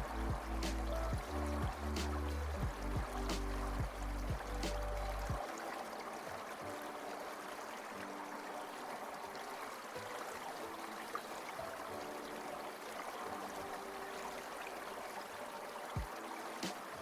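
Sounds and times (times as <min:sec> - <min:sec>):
stream trickling: 0:00.0 - 0:17.0.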